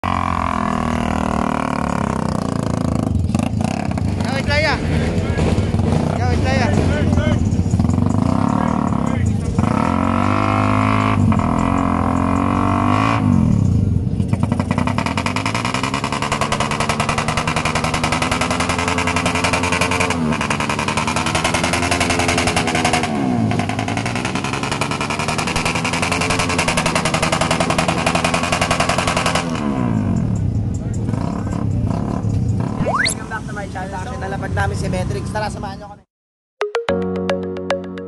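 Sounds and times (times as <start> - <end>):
motorcycle engine revving: 0.0 - 35.1.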